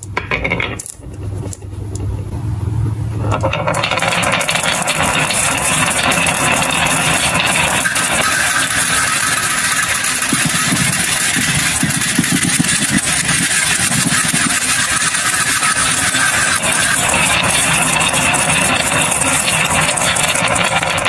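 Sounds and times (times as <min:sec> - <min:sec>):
marbles rolling down wooden track: 0:00.0 - 0:02.2, 0:03.2 - 0:21.0.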